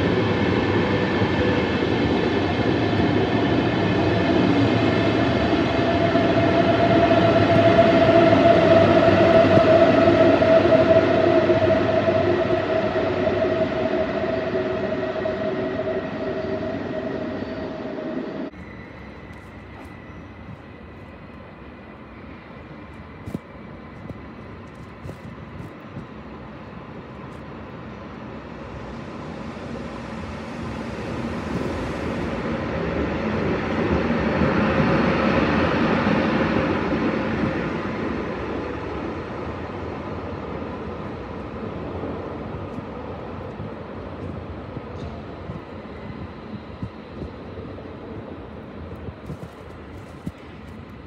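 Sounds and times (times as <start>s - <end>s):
electric locomotive passing: 0.0s - 51.0s.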